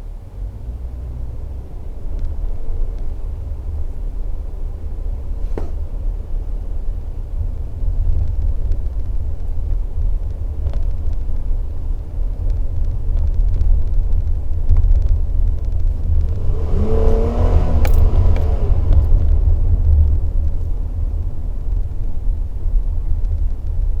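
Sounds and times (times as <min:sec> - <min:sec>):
engine rumble inside cab: 0:00.0 - 0:24.0
road noise: 0:00.0 - 0:24.0.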